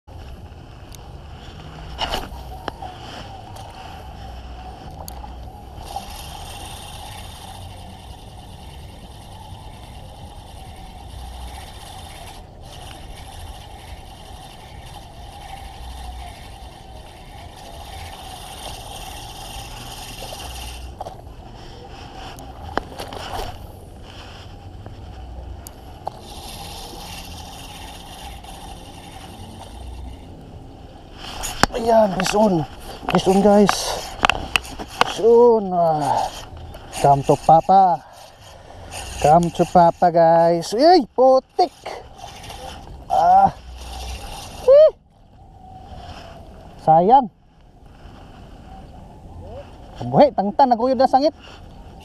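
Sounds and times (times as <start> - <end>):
fishing reel cranking: 0.3 - 47.2, 50.1 - 52.0
lure being cast: 1.7 - 46.0.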